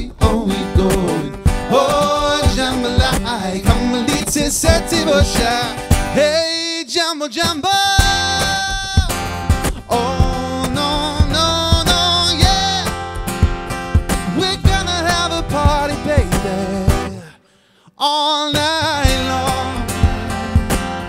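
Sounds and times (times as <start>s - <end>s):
acoustic guitar strumming: 0.0s - 6.6s, 7.4s - 17.3s, 18.5s - 21.0s
man singing: 0.0s - 13.0s, 14.2s - 21.0s.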